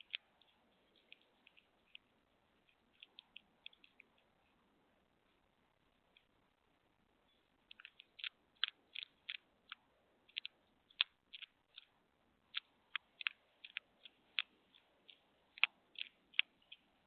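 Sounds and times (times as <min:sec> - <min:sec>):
hedgehog chewing clicks: 0:00.0 - 0:04.7, 0:07.3 - 0:17.0.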